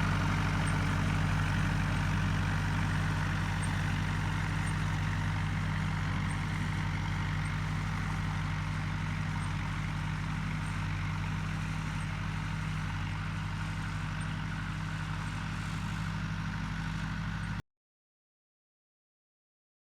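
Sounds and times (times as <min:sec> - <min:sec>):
engine idling: 0:00.0 - 0:17.6.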